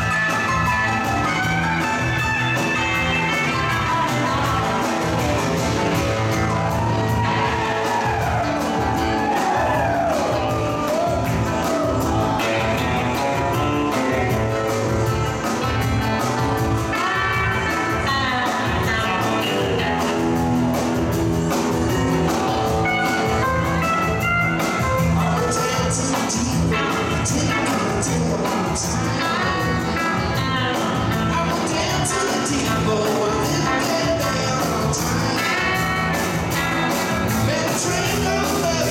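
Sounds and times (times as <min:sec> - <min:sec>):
electric guitar lead bending notes: 0:00.0 - 0:38.9
rock band playing: 0:00.0 - 0:38.9.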